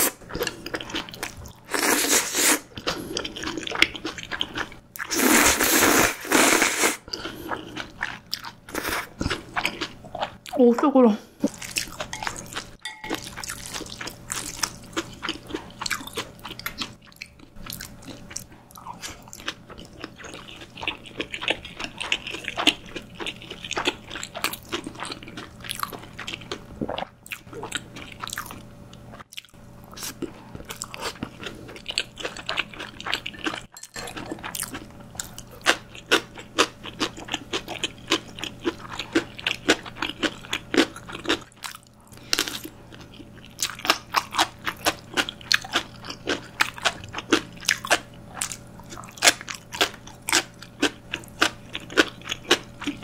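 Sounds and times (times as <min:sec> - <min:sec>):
person chewing: 0:00.0 - 0:10.6, 0:11.4 - 0:53.0.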